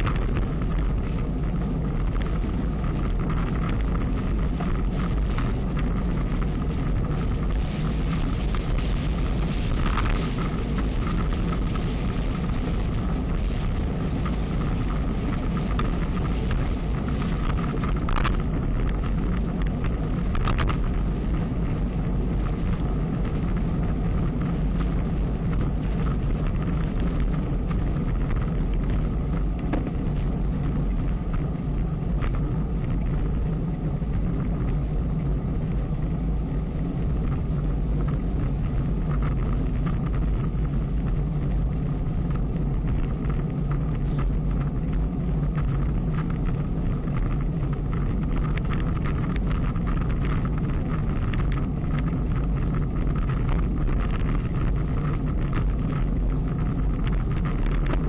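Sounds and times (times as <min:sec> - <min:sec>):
road noise: 0:00.0 - 0:58.0
wind rushing over microphone: 0:00.0 - 0:58.0.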